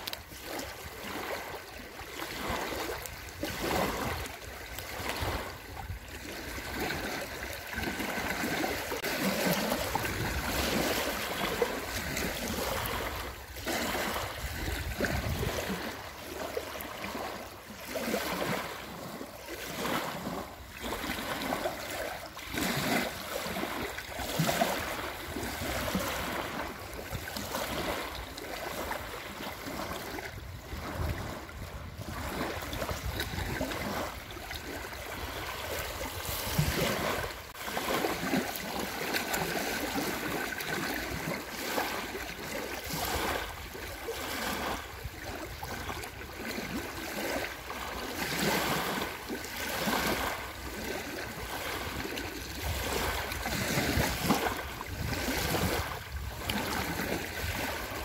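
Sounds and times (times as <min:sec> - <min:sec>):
lake waves lapping on shore: 0:00.0 - 0:58.0.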